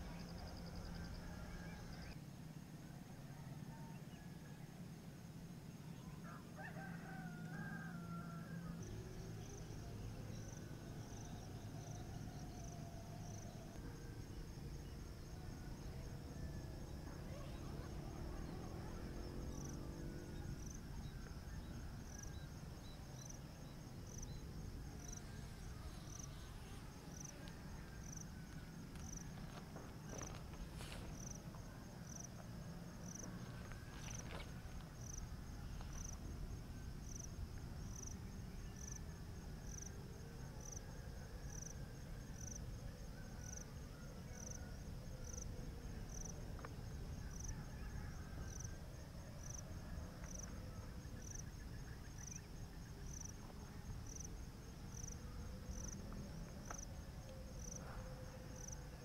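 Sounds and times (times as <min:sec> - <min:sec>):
insects trilling: 0:05.9 - 0:59.0.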